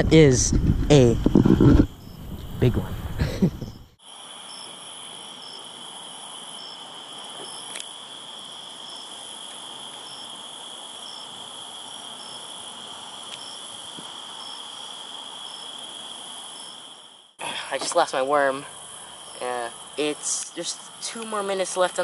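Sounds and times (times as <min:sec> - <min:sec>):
crickets chirping: 0:00.1 - 0:22.0
insect calling in pulses: 0:00.9 - 0:22.0.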